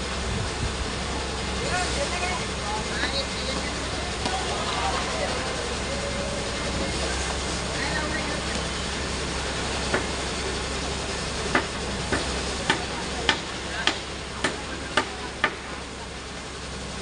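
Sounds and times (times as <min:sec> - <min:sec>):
outdoor background hum: 0:00.0 - 0:17.0.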